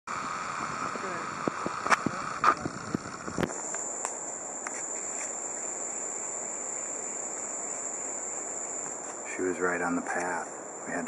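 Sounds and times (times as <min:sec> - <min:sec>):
insects droning: 0:00.1 - 0:11.0.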